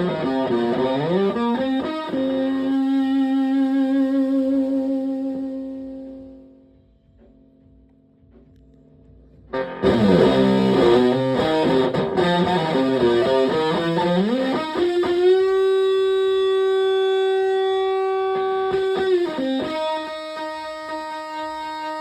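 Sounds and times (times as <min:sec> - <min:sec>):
fuzz electric guitar: 0:00.0 - 0:07.2, 0:09.4 - 0:22.0.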